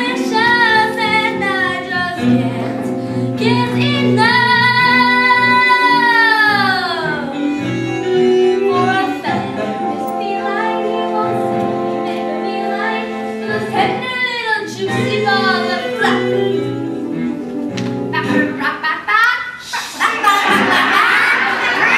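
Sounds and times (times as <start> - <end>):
instrumental accompaniment: 0.0 - 19.1.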